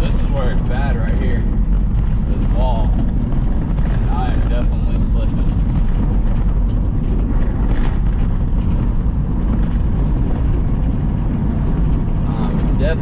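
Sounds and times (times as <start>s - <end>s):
semi truck driving: 0.0s - 13.0s.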